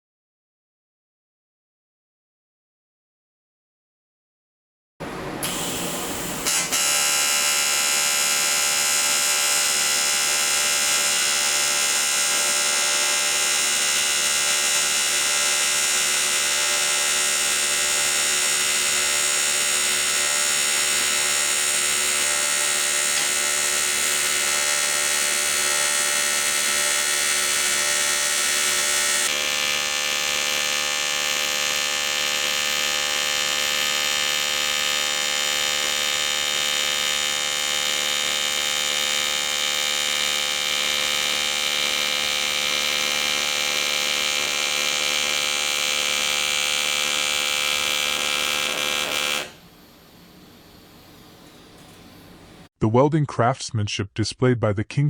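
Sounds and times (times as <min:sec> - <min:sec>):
welding arc buzzing hum: 0:05.0 - 0:52.7.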